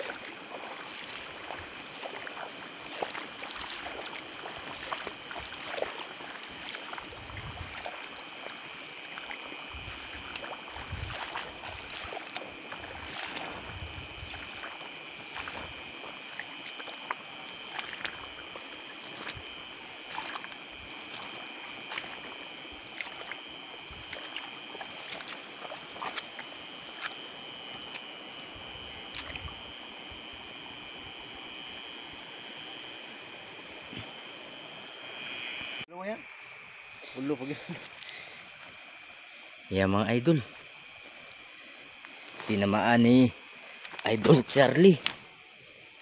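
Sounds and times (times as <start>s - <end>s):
water sloshing and splashing: 0.0s - 34.8s, 40.4s - 46.0s
night insects trilling: 0.0s - 46.0s.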